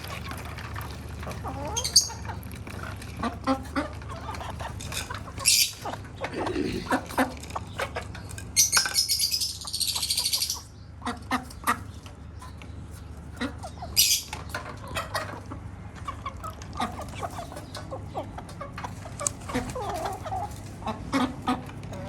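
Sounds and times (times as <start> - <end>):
hens clucking and birds chirping: 0.0 - 22.0.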